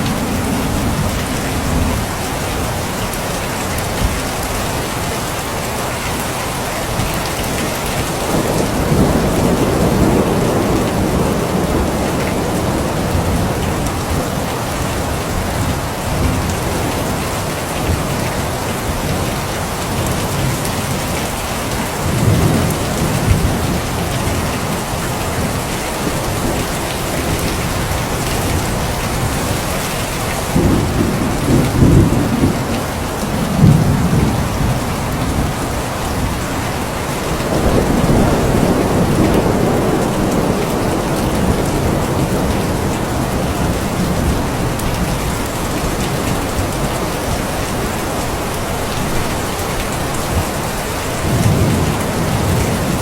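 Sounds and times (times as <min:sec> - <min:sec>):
thunder rumbling: 0:00.0 - 0:03.3, 0:06.9 - 0:53.0
heavy rain: 0:00.0 - 0:53.0.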